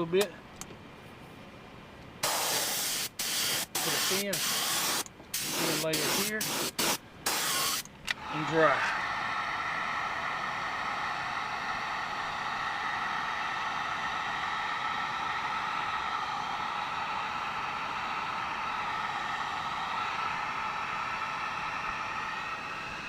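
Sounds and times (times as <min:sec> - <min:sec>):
blower rushing air: 0:02.2 - 0:23.0.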